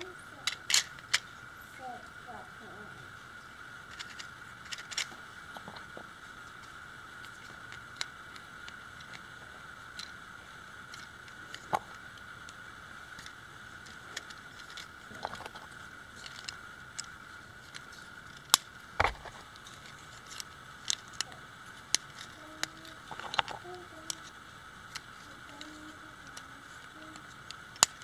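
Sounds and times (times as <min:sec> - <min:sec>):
plastic parts clicking: 0:00.4 - 0:01.3, 0:03.9 - 0:05.9, 0:06.6 - 0:09.3, 0:09.9 - 0:10.2, 0:10.8 - 0:28.0.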